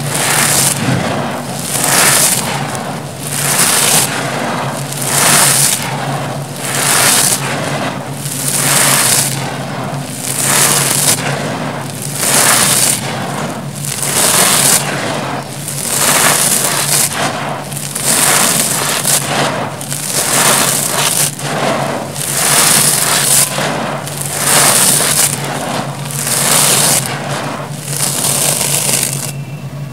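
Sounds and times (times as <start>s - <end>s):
gravel crunching through hands: 0.0s - 29.4s.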